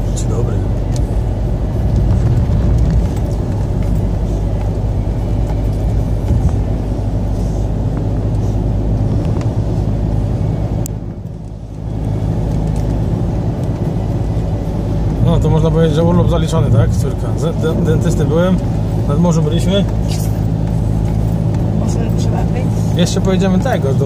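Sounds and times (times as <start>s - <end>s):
car engine and tyre noise: 0.0s - 24.0s.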